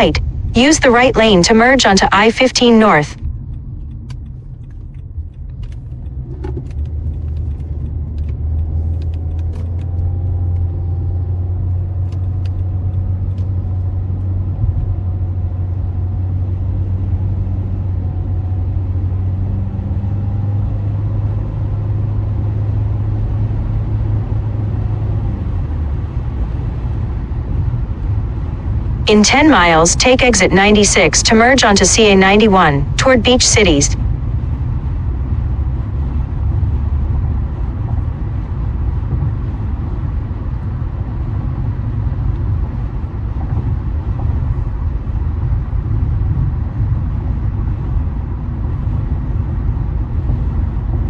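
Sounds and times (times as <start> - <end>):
car engine and tyre rumble: 0.0 - 31.6, 34.0 - 51.0.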